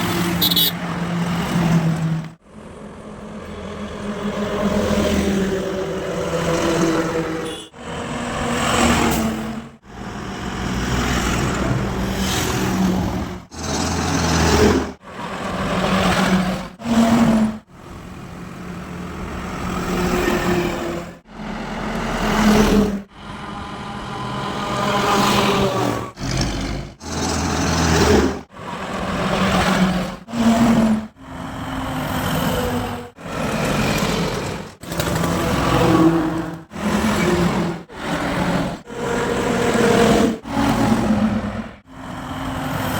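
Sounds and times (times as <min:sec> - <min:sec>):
heavy trucks passing on highway: 0:00.0 - 0:42.9.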